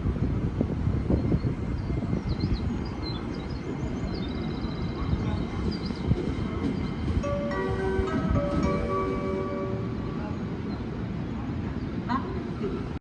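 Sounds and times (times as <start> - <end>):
gusty wind on microphone: 0.0 - 13.0
train running: 0.0 - 13.0.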